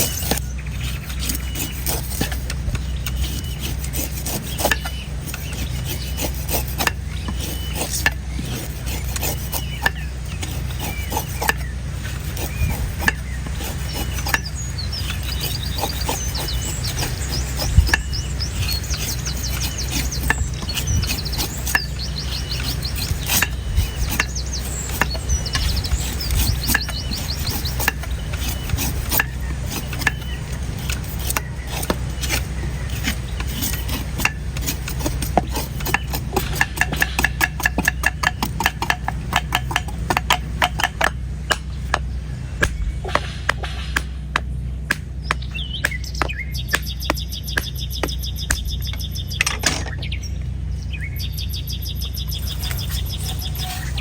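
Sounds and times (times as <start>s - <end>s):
knife chopping coconut husk: 0.0s - 49.4s
birds chirping: 0.0s - 54.0s
low hum: 0.0s - 54.0s.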